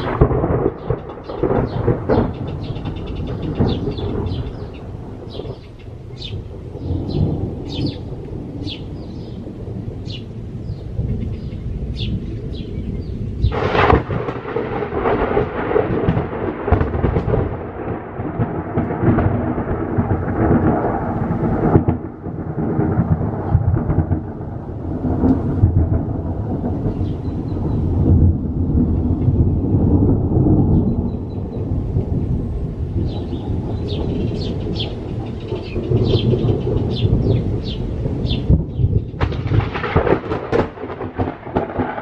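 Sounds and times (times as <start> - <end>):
rolling thunder rumbles: 0.0 - 42.0
thunder crack: 0.0 - 42.0.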